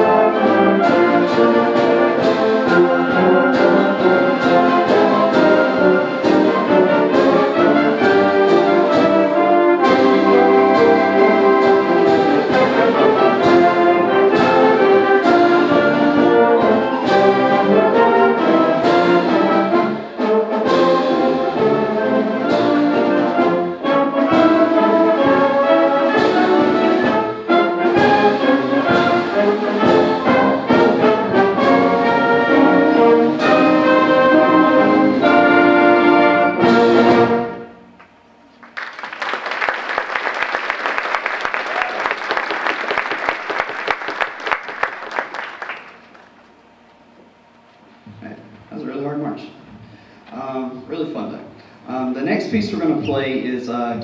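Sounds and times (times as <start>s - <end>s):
symphonic band playing a march: 0.0s - 38.0s, 38.8s - 46.4s.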